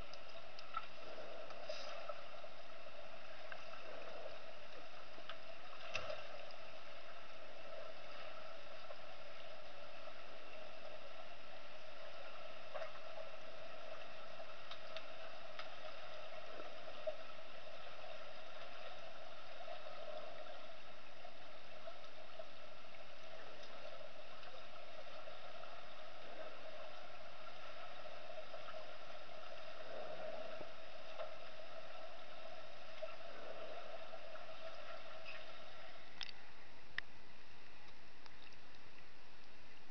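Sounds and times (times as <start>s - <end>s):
faint clicks: 0.0s - 11.0s, 12.0s - 20.7s, 21.5s - 39.6s
underwater hum in a pool: 0.0s - 39.9s.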